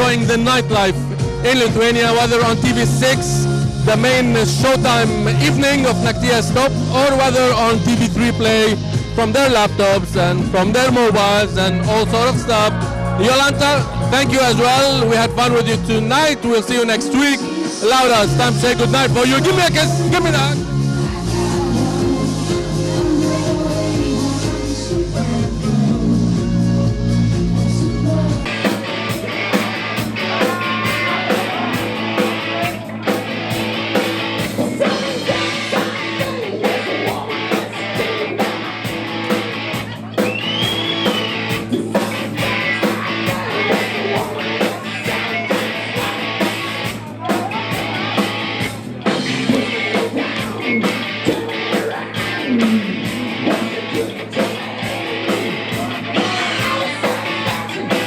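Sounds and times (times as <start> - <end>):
rock music with singing: 0.0 - 58.0.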